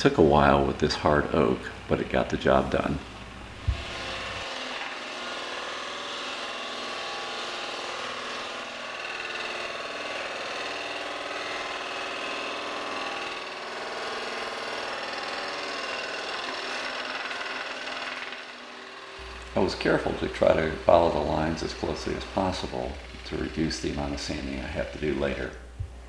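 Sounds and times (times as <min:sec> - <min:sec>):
scroll saw cutting wood: 0:00.0 - 0:25.7.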